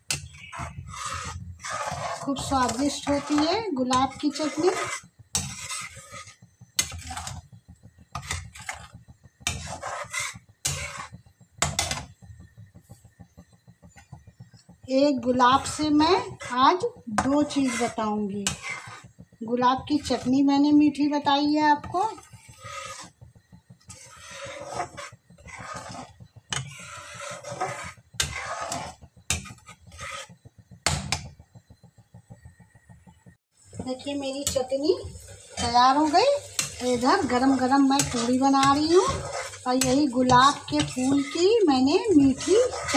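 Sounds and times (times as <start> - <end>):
ladle scraping a metal pan: 0.0 - 31.4, 33.8 - 42.9.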